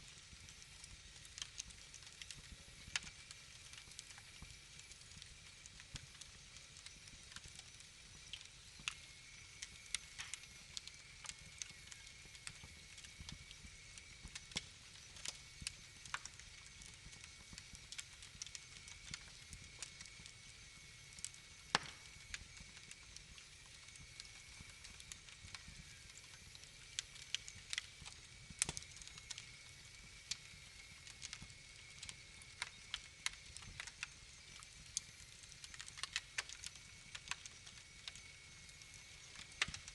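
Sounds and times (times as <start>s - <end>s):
fire pops and snaps: 0.0s - 39.9s.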